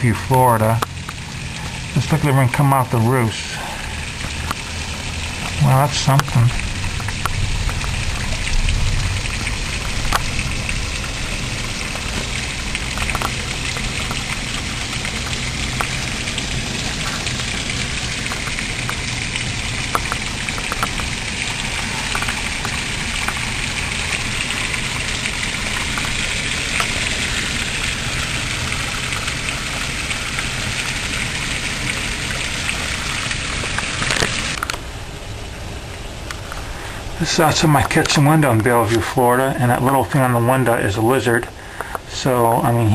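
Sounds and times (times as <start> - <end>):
drops splatting: 0.0 - 34.9
heavy rain pouring: 0.0 - 42.9
water running off roofs: 0.0 - 42.9.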